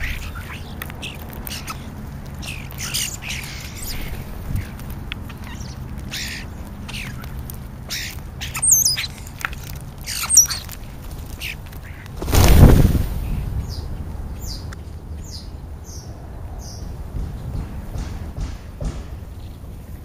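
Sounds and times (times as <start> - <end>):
starlings chattering: 0.0 - 17.5.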